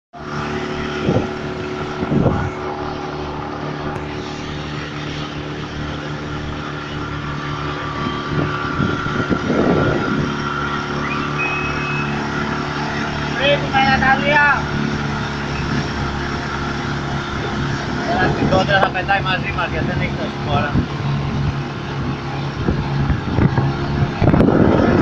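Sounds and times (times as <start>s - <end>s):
motorboat engine running: 0.1s - 25.0s
wind and water rushing over hull: 0.2s - 25.0s.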